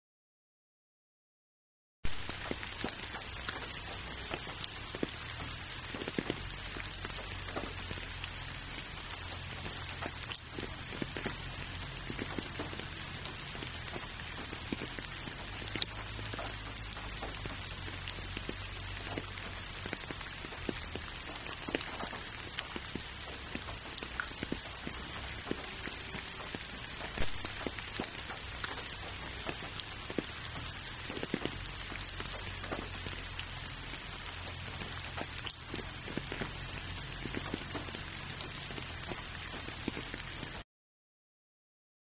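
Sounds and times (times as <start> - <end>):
steady rain hiss: 2.0 - 40.6
close raindrop impacts ticking: 2.1 - 40.6
low steady rumble: 2.1 - 40.6.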